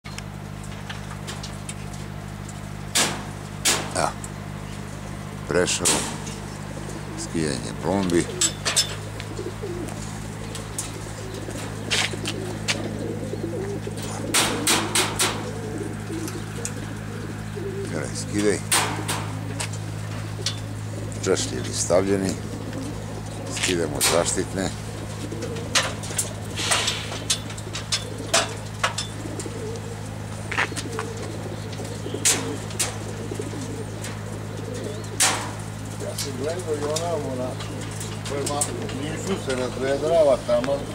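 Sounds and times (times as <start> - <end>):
pigeons cooing: 0.1 - 40.9
steady low hum: 0.1 - 40.9.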